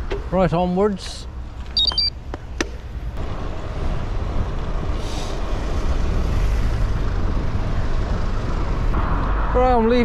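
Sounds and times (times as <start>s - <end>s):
tyre and road noise: 0.0s - 10.0s.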